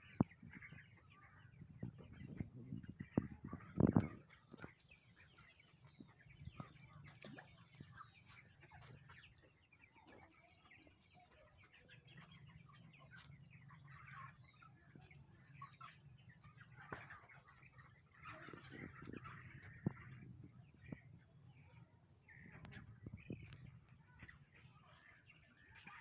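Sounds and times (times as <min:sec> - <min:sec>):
faint chickens clucking: 0:00.0 - 0:26.0.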